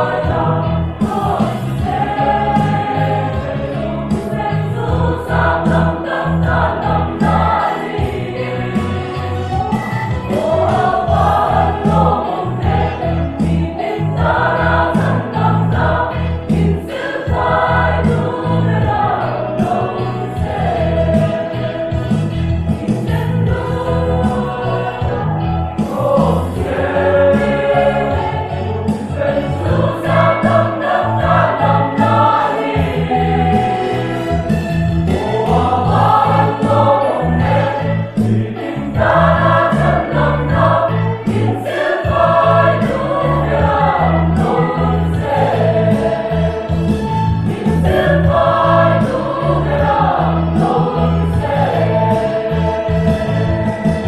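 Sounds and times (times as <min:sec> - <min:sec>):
choir singing a hymn: 0:00.0 - 0:54.0
sustained keyboard chords: 0:00.0 - 0:54.0.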